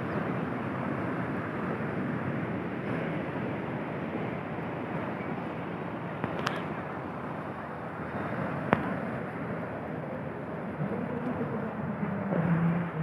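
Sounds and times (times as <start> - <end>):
surf breaking on a beach: 0.0 - 13.0.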